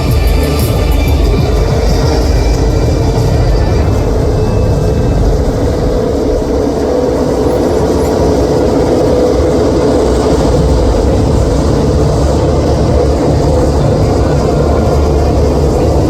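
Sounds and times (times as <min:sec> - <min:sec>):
motorcycle engines roaring: 0:00.0 - 0:16.0.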